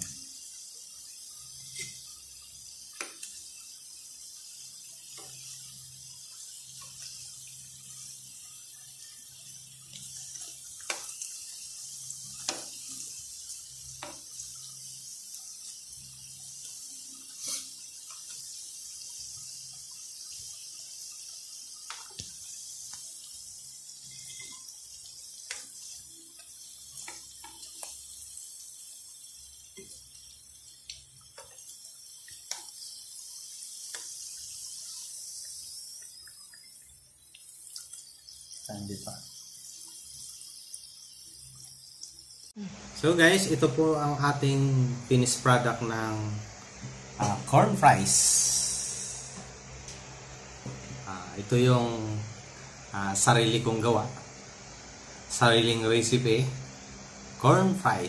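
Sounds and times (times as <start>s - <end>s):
food deep-frying in hot oil: 0.0s - 58.0s.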